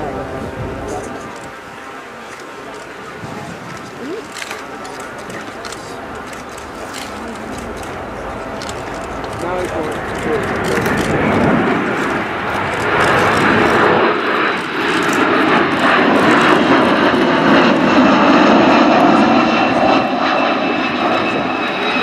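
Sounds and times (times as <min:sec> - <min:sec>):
jet flying past overhead: 0:00.0 - 0:22.0.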